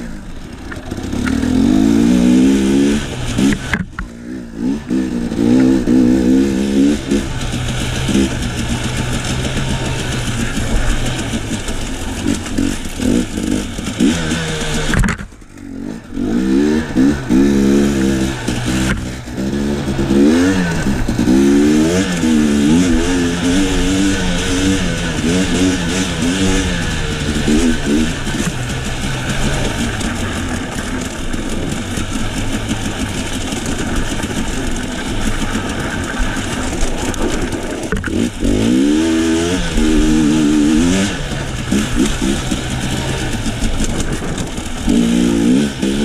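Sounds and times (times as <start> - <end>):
dirt bike engine revving: 0.0 - 46.0
steady rushing noise: 0.0 - 46.0.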